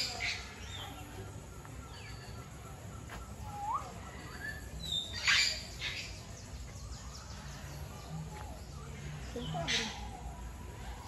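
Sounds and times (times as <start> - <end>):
birds chirping and whistling: 0.0 - 11.0.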